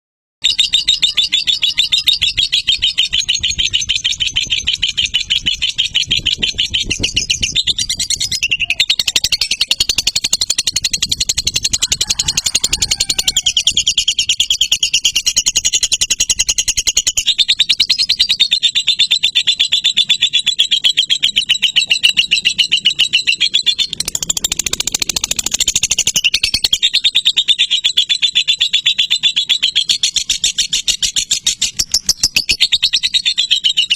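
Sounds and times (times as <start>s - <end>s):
lovebird chattering trill: 0.4s - 33.9s.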